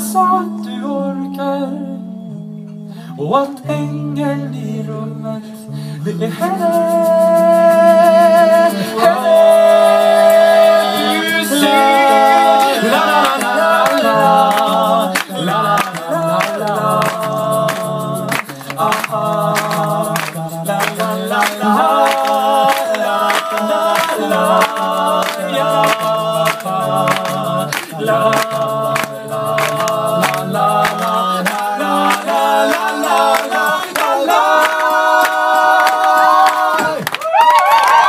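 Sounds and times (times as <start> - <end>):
men singing a cappella: 0.0 - 37.2.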